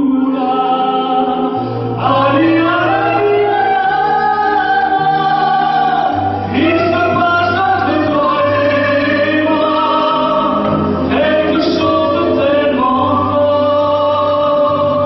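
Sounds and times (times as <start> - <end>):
bass line: 0.0 - 15.0
instrumental backing: 0.0 - 15.0
vocal duo singing: 0.0 - 15.0.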